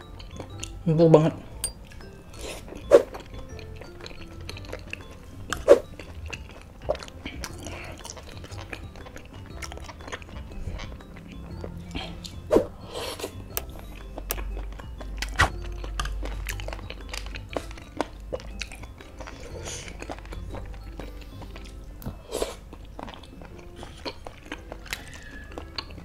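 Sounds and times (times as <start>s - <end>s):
quiet background music: 0.0s - 26.0s
chewing and wet mouth smacks: 1.9s - 12.5s, 13.1s - 26.0s.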